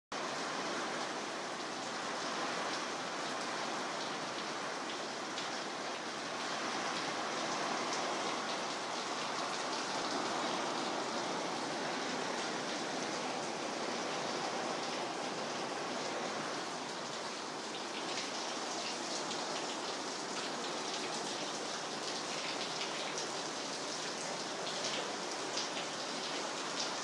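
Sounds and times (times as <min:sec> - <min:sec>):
heavy rain falling: 0:00.2 - 0:27.0.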